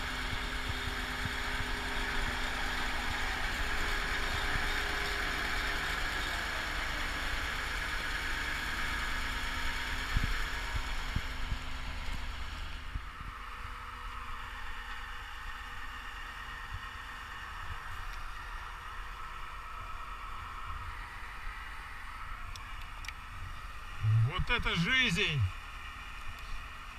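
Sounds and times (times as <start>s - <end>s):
crane engine running: 0.0s - 26.9s.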